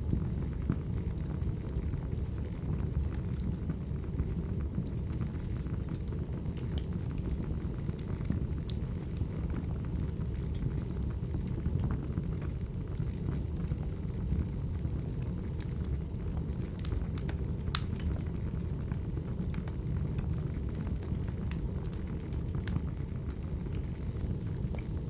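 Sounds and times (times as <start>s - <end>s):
fire roaring: 0.0s - 25.0s
logs crackling and popping: 0.0s - 25.0s.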